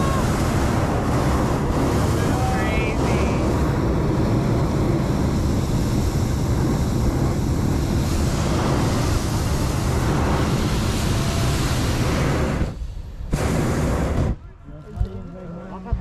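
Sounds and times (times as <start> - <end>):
propane burner roaring: 0.0 - 14.4.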